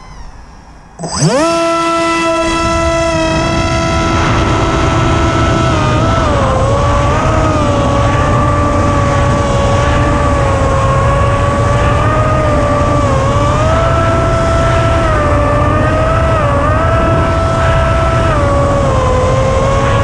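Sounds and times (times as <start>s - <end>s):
electric motor and propeller whining: 0.0s - 20.0s
wind rush: 2.1s - 20.0s.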